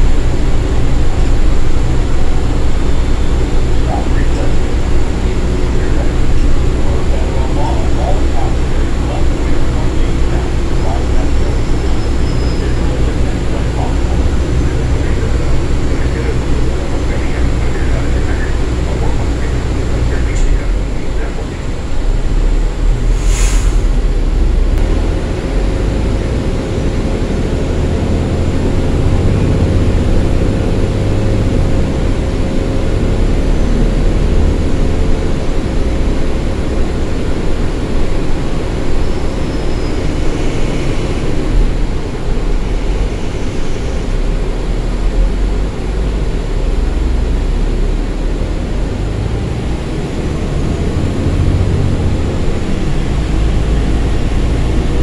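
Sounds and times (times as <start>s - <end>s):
bus engine drone: 0.0s - 55.0s
faint steady whine: 0.0s - 55.0s
road rumble: 0.0s - 55.0s.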